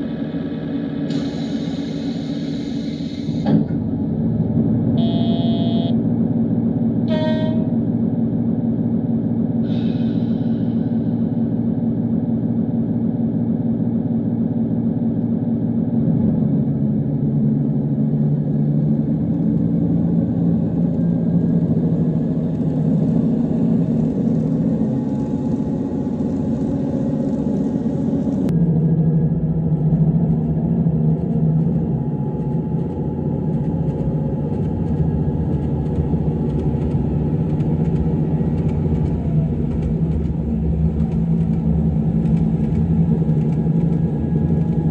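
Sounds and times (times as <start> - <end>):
diesel engine running: 0.0 - 9.0, 16.0 - 44.9.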